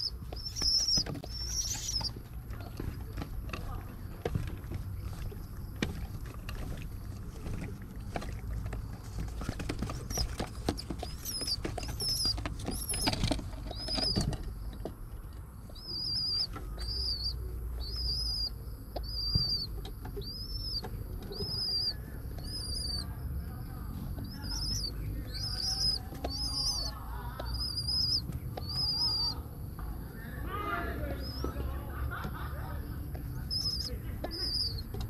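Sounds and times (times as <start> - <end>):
pigeon squab peeping: 0.0 - 35.0
scuffling and wing fluttering: 0.0 - 35.0.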